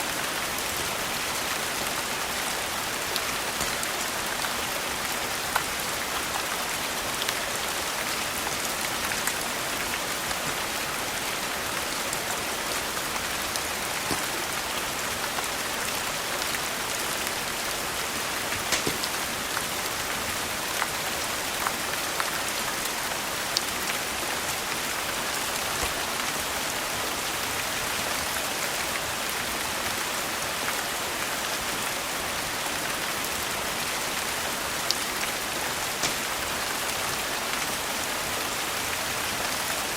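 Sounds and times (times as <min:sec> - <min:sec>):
steady rain hiss: 0:00.0 - 0:39.9
sharp rain ticks: 0:00.1 - 0:30.0, 0:34.7 - 0:37.8.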